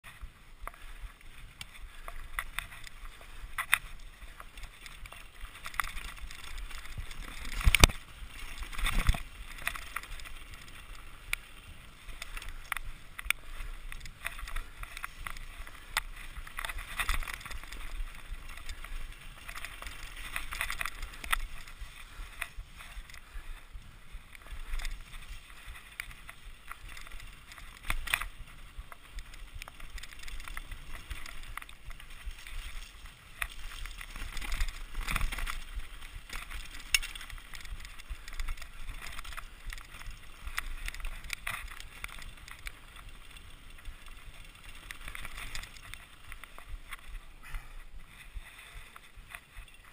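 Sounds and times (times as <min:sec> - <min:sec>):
bike rattling and clicking: 0:00.0 - 0:49.9
bike tyres on dirt trail: 0:00.0 - 0:49.9.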